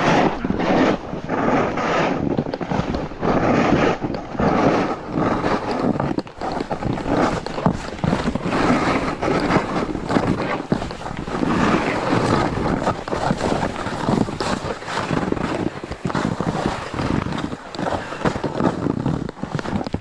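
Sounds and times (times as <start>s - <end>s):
snowboard scraping snow: 0.0s - 20.0s
wind rushing over microphone: 0.0s - 20.0s.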